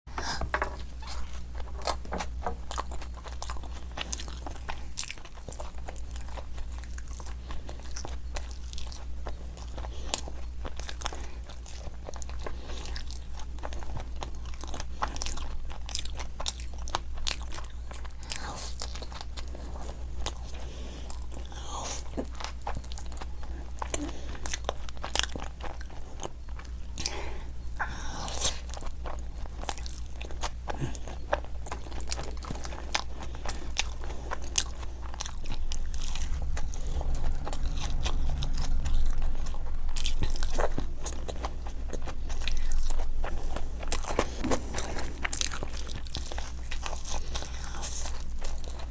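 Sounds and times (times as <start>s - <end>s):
person chewing crunchy snacks: 0.2s - 48.9s.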